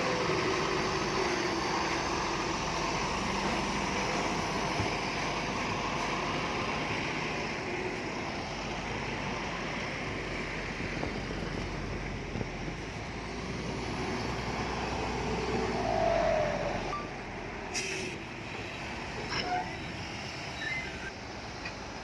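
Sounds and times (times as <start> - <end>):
heavy diesel machinery engines: 0.0 - 22.0.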